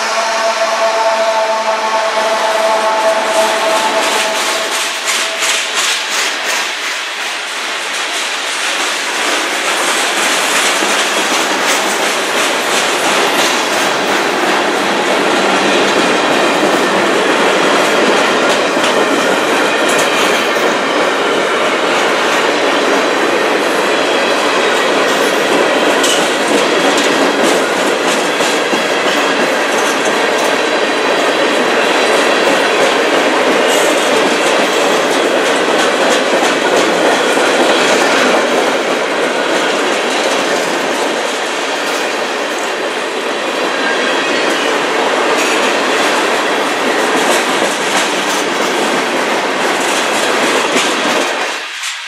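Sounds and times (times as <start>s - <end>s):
freight train rolling past: 0.0s - 52.0s
wheels clacking over rail joints: 2.6s - 52.0s.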